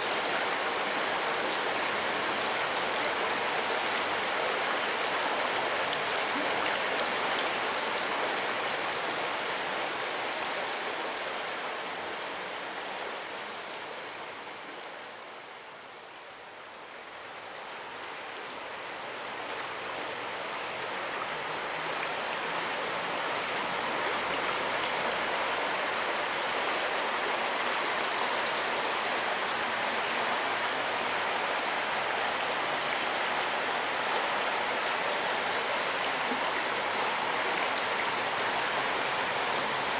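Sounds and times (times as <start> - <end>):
stream splashing over stones: 0.0 - 12.2, 18.4 - 39.9.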